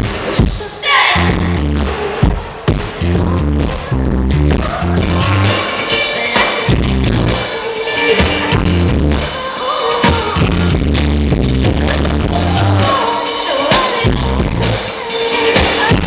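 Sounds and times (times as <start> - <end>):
drums: 0.0 - 16.0
live band music over pa: 0.0 - 16.0
heavy bass line: 1.2 - 16.0.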